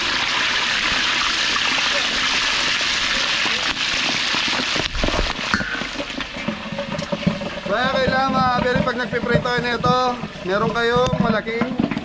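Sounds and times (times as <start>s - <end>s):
meat deep-frying in oil: 0.0s - 12.0s.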